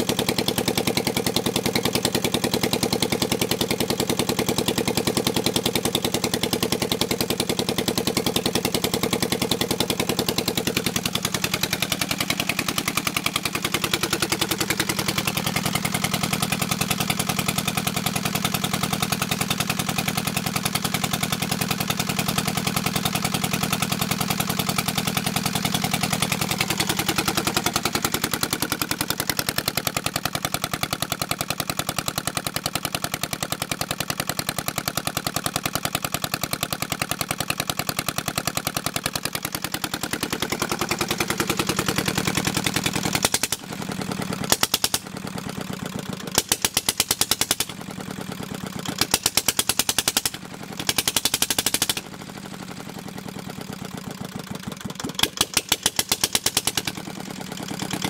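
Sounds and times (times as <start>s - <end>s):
diesel engine rapid rattle: 0.0s - 58.0s.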